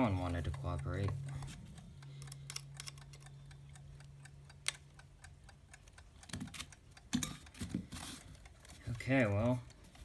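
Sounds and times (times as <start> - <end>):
alarm clock ticking: 0.0 - 10.0.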